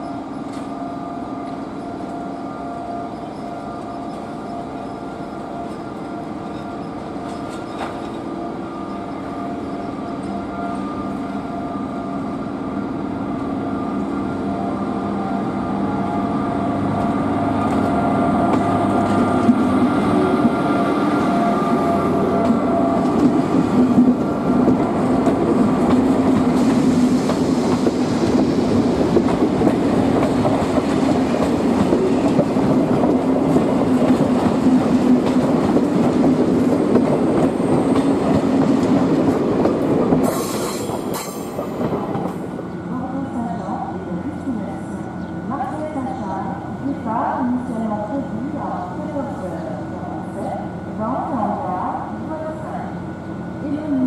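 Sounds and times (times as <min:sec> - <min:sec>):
train wheels rumbling on rails: 0:00.0 - 0:11.7, 0:13.8 - 0:54.0
electric locomotive whine: 0:00.0 - 0:54.0.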